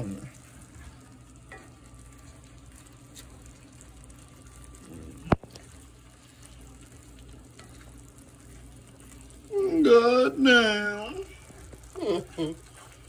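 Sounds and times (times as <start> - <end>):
food sizzling and bubbling in skillet: 0.0 - 13.0.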